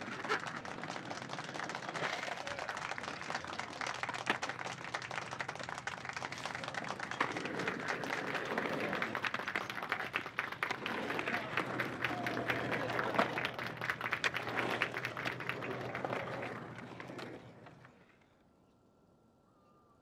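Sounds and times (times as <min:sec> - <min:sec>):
crowd clapping: 0:00.0 - 0:17.9.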